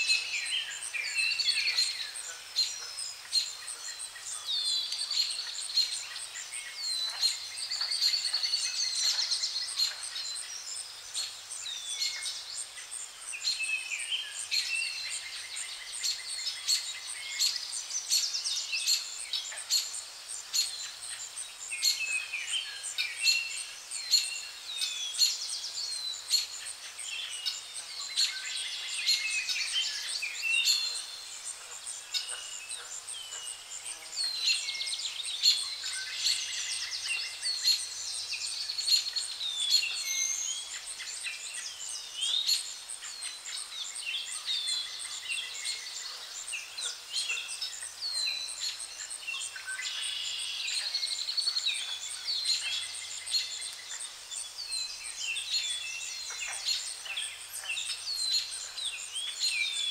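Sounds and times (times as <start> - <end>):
soft outdoor hiss: 0.0 - 59.9
songbirds chirping and trilling: 0.0 - 59.9.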